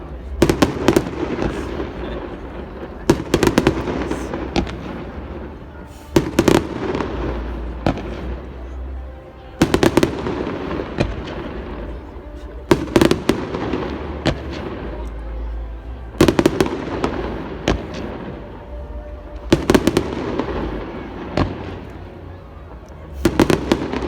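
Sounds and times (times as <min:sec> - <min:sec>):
fireworks crackling and rumbling: 0:00.0 - 0:24.0.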